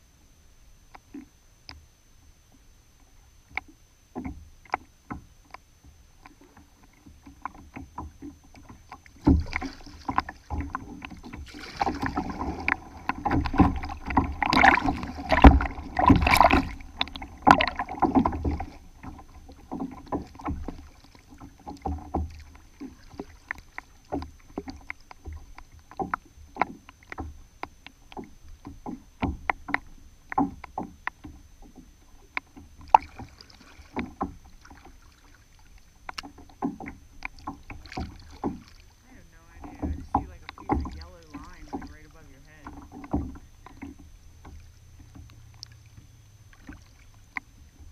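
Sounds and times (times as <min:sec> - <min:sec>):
water lapping against kayak hull: 0:00.0 - 0:47.9
water splashes and drips: 0:06.2 - 0:47.9.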